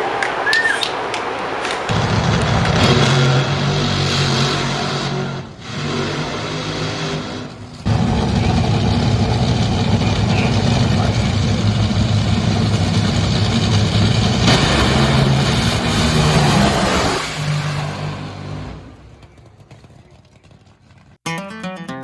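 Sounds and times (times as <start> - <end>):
dragster engine running: 1.9 - 21.2.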